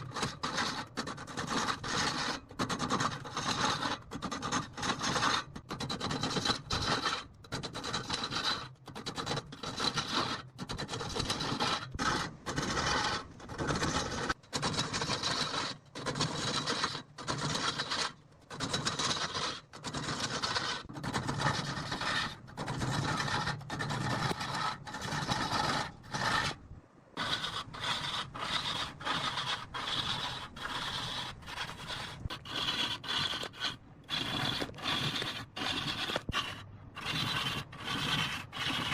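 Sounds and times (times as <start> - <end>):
lathe tool scraping wood: 0.0 - 8.7, 9.6 - 26.6, 27.2 - 38.9.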